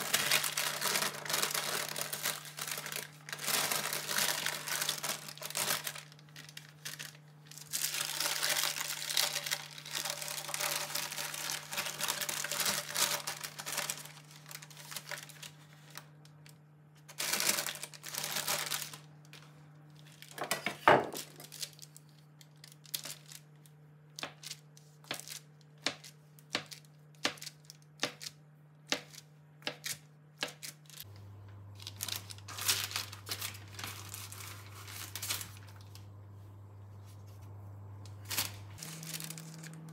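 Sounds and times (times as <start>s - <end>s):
rustling and crinkling: 0.0s - 28.2s, 30.6s - 39.9s.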